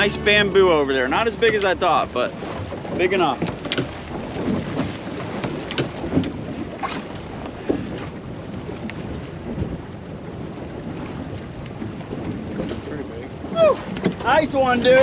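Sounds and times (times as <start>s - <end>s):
water slapping boat hull: 0.0s - 15.0s
wind buffeting microphone: 0.0s - 15.0s.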